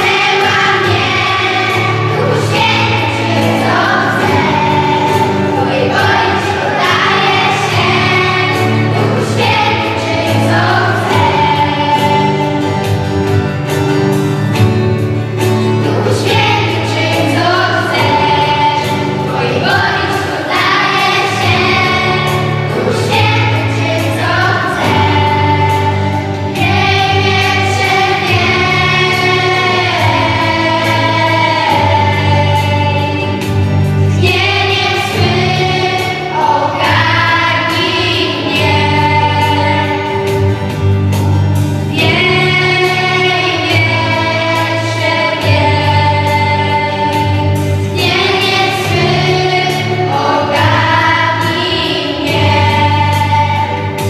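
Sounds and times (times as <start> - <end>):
choir singing worship song: 0.0 - 54.0
guitar: 0.0 - 54.0
low bass notes: 0.0 - 54.0.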